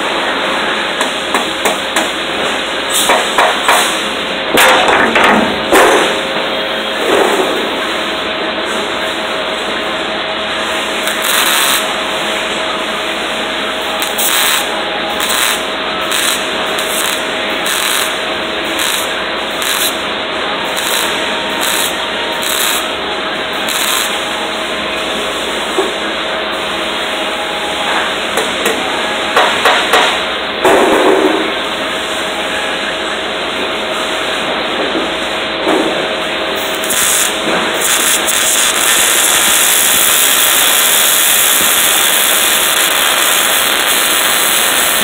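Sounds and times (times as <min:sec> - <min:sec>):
welding arc sizzling: 0:05.7 - 0:32.6, 0:35.2 - 0:45.0.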